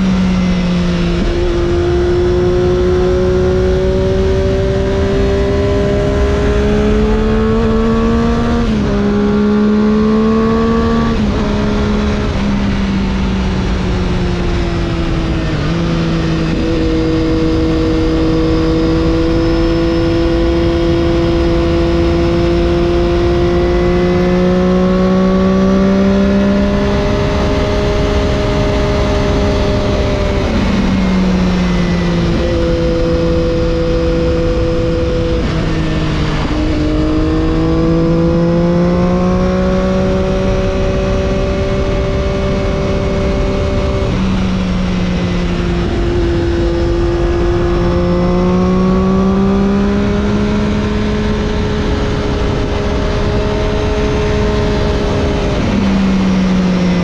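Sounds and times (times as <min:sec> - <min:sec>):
motorcycle engine: 0:00.0 - 0:57.0
wind noise: 0:00.0 - 0:57.0.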